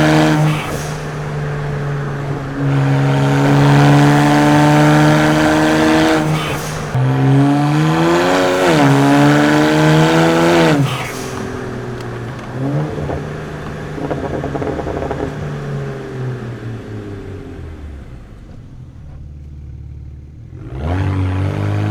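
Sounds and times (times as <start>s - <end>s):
car engine accelerating: 0.0s - 21.9s.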